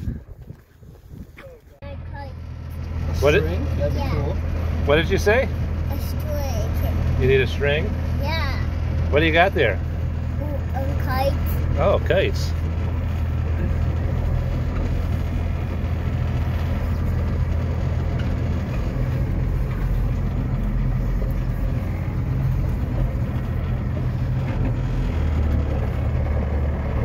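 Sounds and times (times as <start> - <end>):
truck engine rumble: 0.0 - 27.0
road noise hiss: 2.2 - 27.0.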